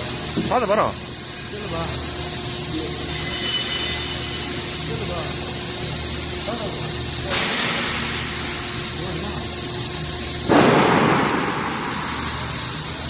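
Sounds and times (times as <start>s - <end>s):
machinery hum with hiss: 0.0s - 13.0s.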